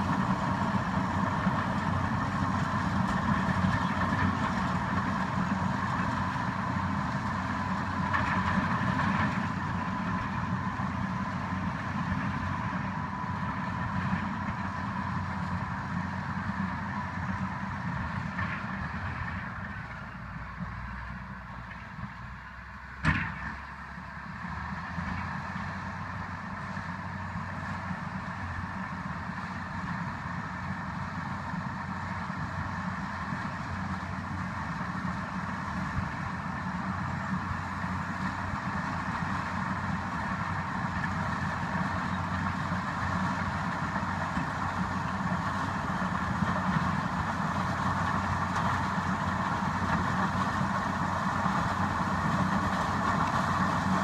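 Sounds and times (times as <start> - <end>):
diesel bulldozer engine: 0.0 - 54.0.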